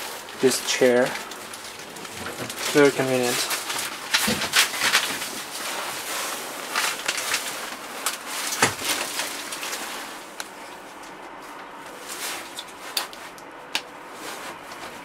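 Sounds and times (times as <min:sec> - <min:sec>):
rustling handling noise: 0:00.0 - 0:15.0.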